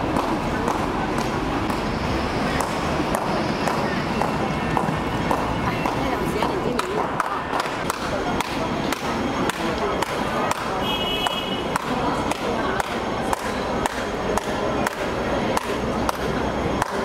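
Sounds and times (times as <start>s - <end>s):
traffic hum: 0.0s - 17.0s.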